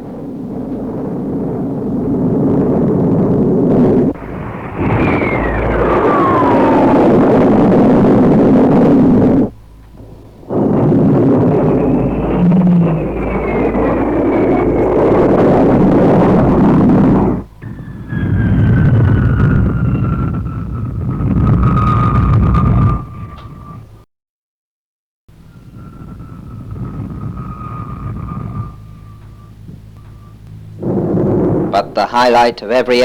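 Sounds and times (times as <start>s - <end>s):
jet aircraft flying past: 0.0s - 24.0s, 25.4s - 33.0s.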